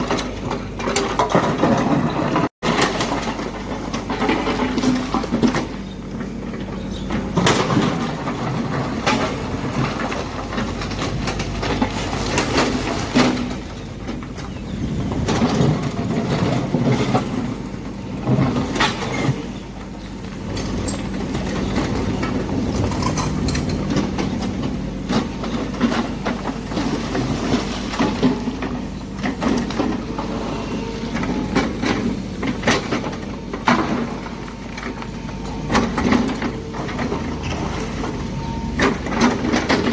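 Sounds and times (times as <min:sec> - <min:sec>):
excavator clanks and knocks: 0:00.0 - 0:39.9
excavator machine hum: 0:00.0 - 0:39.9.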